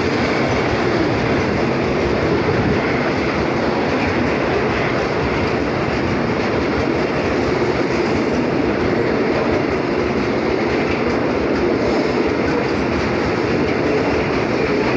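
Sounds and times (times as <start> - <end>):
train running on rails: 0.0 - 14.9.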